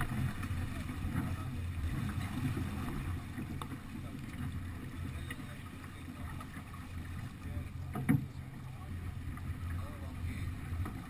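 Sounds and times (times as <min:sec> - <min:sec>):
water washing along a hull: 0:00.0 - 0:11.0.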